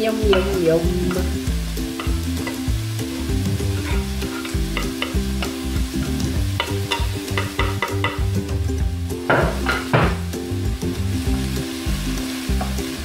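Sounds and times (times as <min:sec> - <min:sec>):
background music with bass line: 0:00.0 - 0:13.0
food sizzling in a frying pan: 0:00.0 - 0:13.0.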